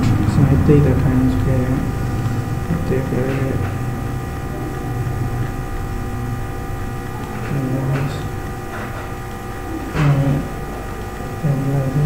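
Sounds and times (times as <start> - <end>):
electrical mains hum: 0.0 - 12.0
faint steady tones: 0.0 - 12.0.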